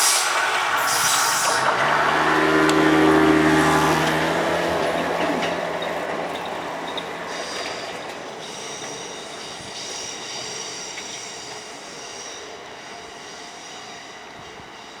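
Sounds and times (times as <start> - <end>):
electric train running over rails: 0.0 - 15.0.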